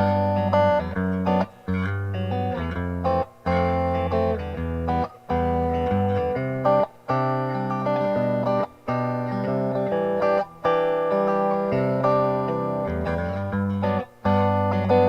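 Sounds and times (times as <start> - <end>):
clean electric guitar chords: 0.0 - 15.0.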